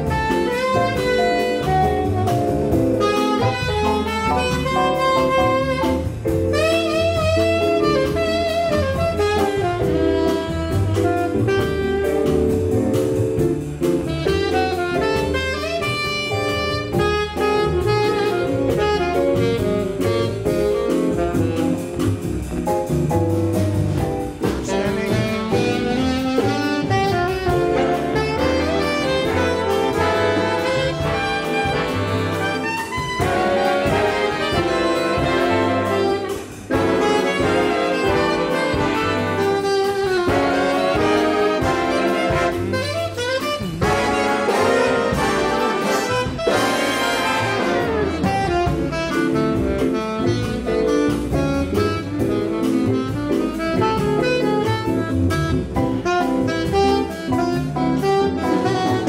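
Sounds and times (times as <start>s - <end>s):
saxophones and brass: 0.0s - 22.4s, 24.3s - 59.0s
drum kit: 0.0s - 59.0s
jazz big band playing: 0.0s - 59.0s.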